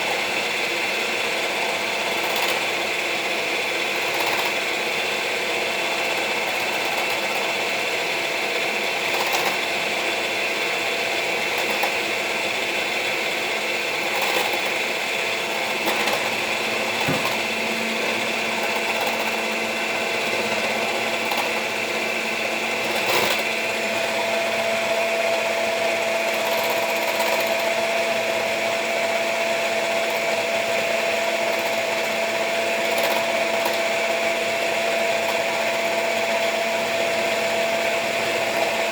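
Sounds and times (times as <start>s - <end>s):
electric mixer whining: 0.0s - 38.9s.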